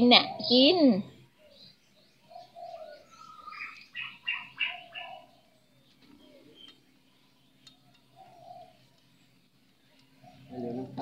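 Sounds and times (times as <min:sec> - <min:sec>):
birds chirping: 0:00.0 - 0:11.0
low rounded bird call: 0:00.0 - 0:11.0.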